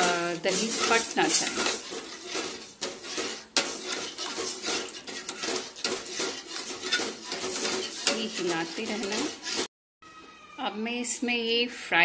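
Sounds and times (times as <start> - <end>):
spoon scraping a steel pan: 0.0 - 9.7.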